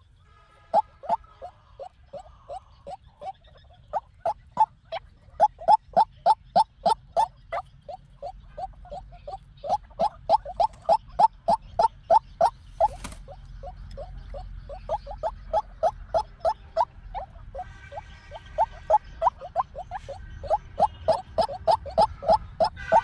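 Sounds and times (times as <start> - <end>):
bird calling harsh notes: 0.0 - 23.0.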